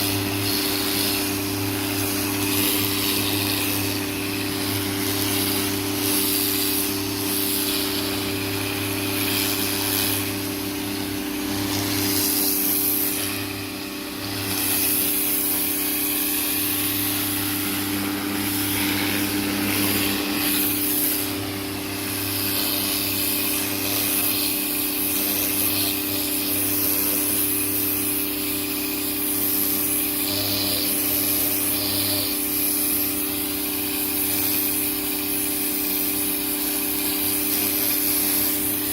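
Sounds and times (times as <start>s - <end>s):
pressure washer motor humming: 0.0s - 38.9s
water spraying from nozzle: 0.0s - 38.9s.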